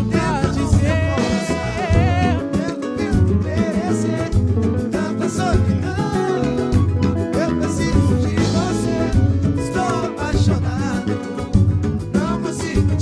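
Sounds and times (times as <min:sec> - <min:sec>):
live band playing: 0:00.0 - 0:13.0
pulsing bass beat: 0:00.0 - 0:13.0.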